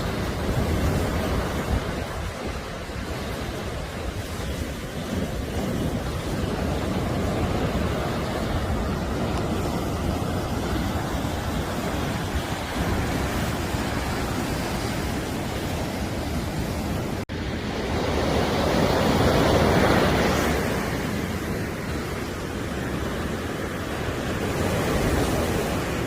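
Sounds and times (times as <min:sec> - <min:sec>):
sea surf washing on beach: 0:00.0 - 0:26.0
wave breaking: 0:00.0 - 0:26.0
wind on microphone: 0:00.0 - 0:26.0.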